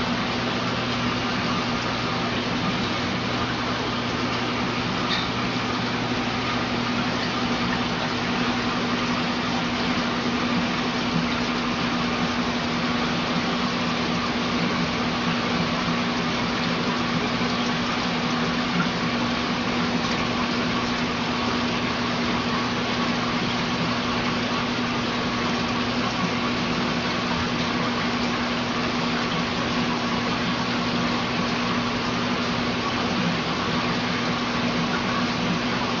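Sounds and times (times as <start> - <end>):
rushing water: 0.0 - 36.0
water pump hum: 0.0 - 36.0.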